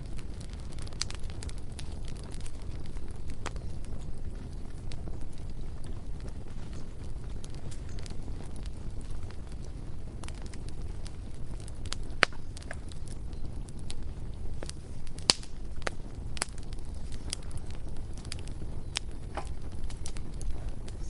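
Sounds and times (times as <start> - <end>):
bonfire crackling and popping: 0.0 - 21.0
low steady rumble: 0.0 - 21.0.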